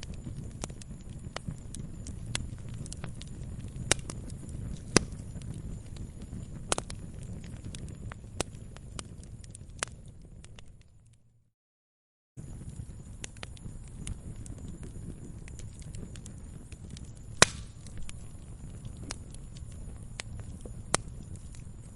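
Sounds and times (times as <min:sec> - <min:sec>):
wood fire crackling and popping: 0:00.0 - 0:11.3, 0:12.4 - 0:21.9
low rumble of burning: 0:00.0 - 0:11.5, 0:12.4 - 0:21.9.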